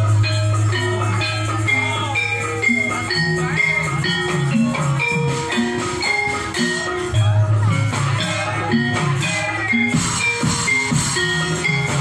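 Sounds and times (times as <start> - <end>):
gamelan metallophone notes: 0.0 - 12.0.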